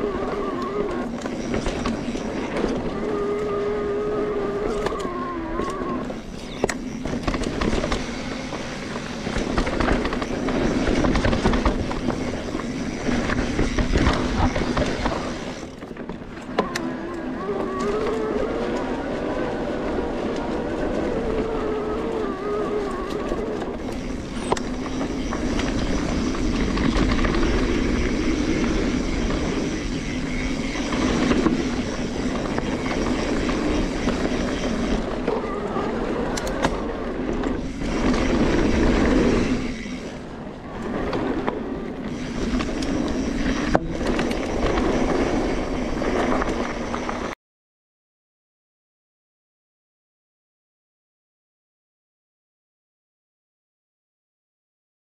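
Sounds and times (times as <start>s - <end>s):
bike tyre rumble on dirt: 0.0s - 47.4s
wind noise: 0.0s - 47.4s.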